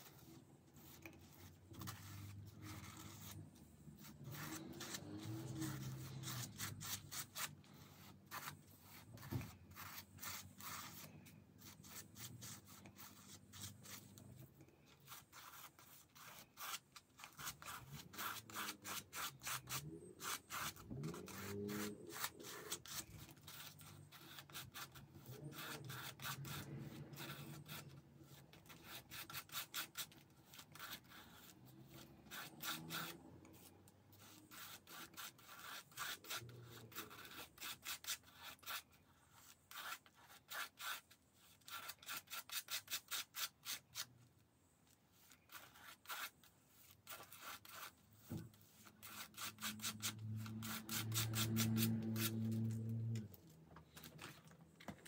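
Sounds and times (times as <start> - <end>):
palette knife scraping paste on paper: 0.0 - 44.1, 44.8 - 54.4.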